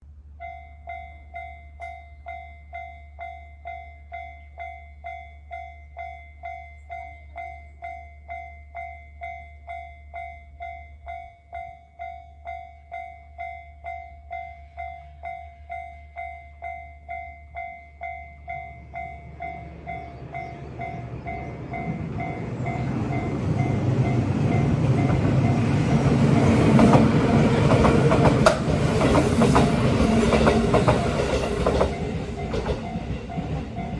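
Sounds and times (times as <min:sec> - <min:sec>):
train passing rumble: 0:00.1 - 0:33.9.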